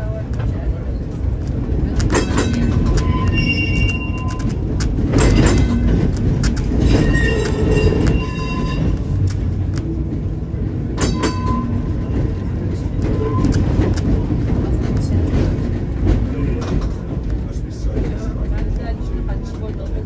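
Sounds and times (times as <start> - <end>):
tram wheels rumbling: 0.0 - 20.0.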